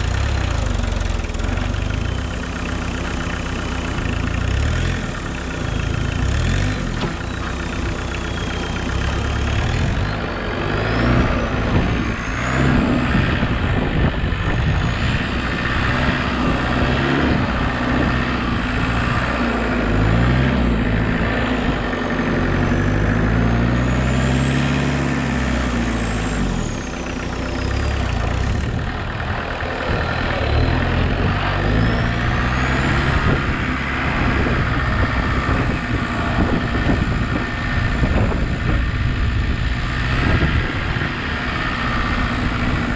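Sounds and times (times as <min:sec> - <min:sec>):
high engine whine: 0:00.0 - 0:42.9
tractor engine revving: 0:00.0 - 0:42.9.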